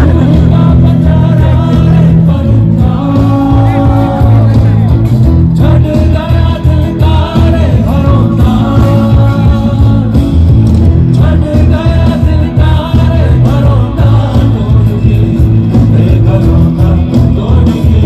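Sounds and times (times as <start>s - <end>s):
live band music with heavy bass: 0.0s - 18.0s
person singing: 0.0s - 18.0s.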